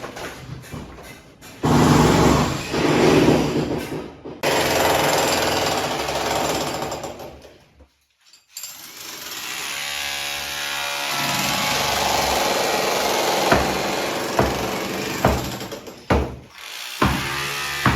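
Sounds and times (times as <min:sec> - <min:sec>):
demolition hammer chipping masonry: 0:01.6 - 0:07.5, 0:08.8 - 0:17.9.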